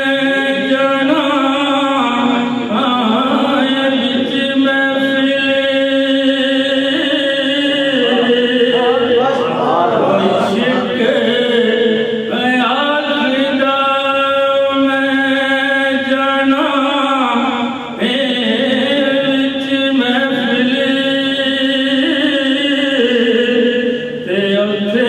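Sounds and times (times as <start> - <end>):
man chanting into a microphone: 0.0 - 25.0.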